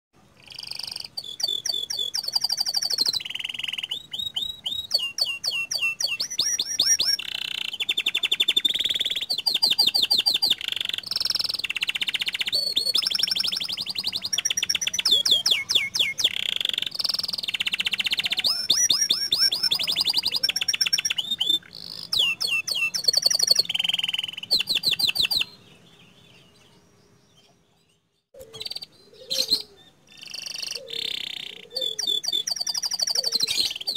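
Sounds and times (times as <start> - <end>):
canary singing trills: 0.4 - 33.9.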